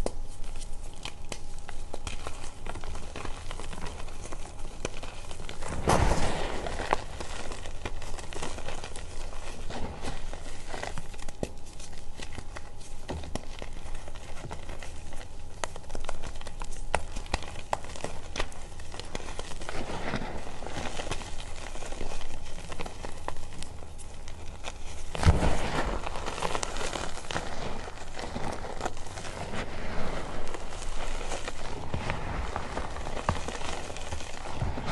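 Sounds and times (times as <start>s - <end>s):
chalk crunching by hand: 0.0s - 34.9s.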